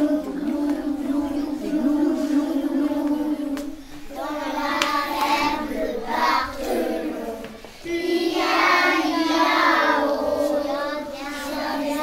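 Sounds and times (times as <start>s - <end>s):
young children singing: 0.0s - 12.0s.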